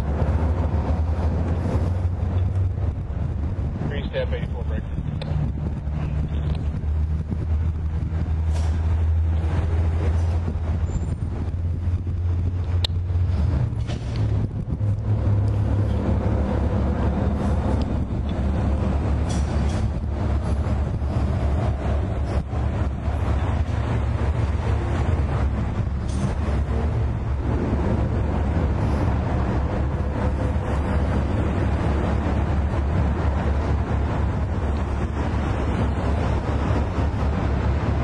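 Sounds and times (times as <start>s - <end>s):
diesel train engines rumbling: 0.0s - 38.0s.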